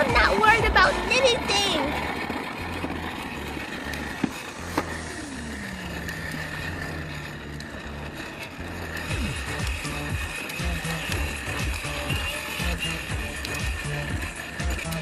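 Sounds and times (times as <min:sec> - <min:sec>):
electric motor humming: 0:00.0 - 0:15.0
plastic wheels rolling: 0:00.0 - 0:15.0.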